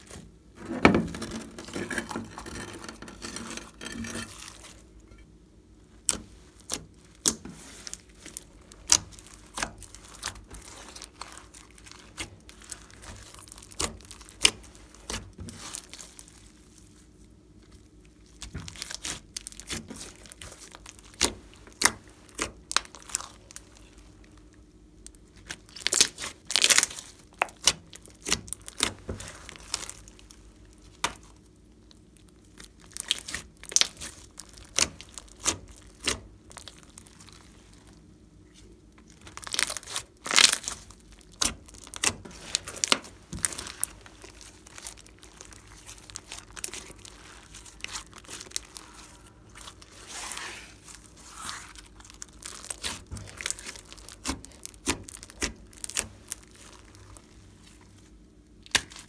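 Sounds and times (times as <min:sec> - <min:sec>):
slime popping and crackling: 0:06.0 - 0:16.4, 0:18.1 - 0:24.0, 0:25.0 - 0:37.5, 0:39.0 - 0:57.5, 0:58.6 - 0:59.0.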